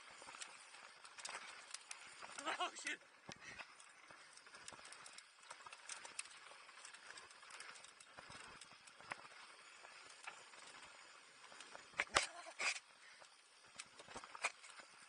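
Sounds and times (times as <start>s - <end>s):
bike tyres rolling over dirt: 0.0s - 15.0s
small clicks and rattles: 0.0s - 15.0s.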